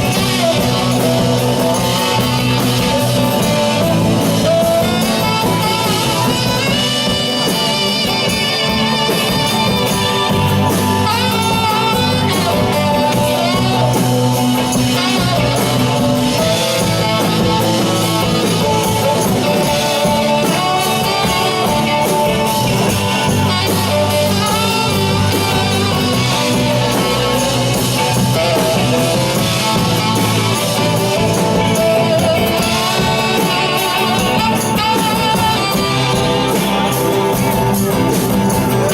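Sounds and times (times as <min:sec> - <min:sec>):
live rock band playing: 0:00.0 - 0:38.9
vibrato lead line: 0:00.0 - 0:38.9.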